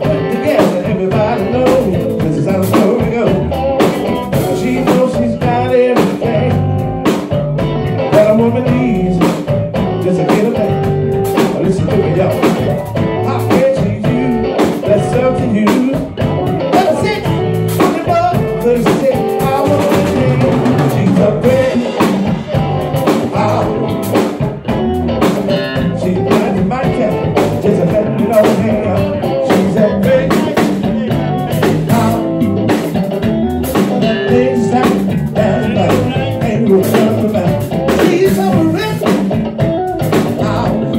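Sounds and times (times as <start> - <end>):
man singing: 0.0 - 7.2, 7.9 - 40.9
drum kit beat: 0.0 - 40.9
electric guitars: 0.0 - 40.9.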